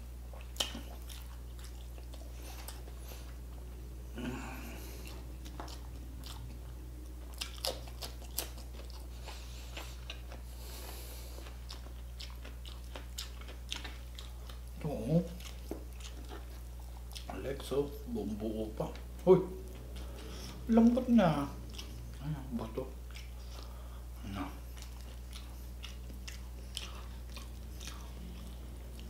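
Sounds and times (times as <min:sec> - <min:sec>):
chewing and crunching food: 0:00.1 - 0:29.0.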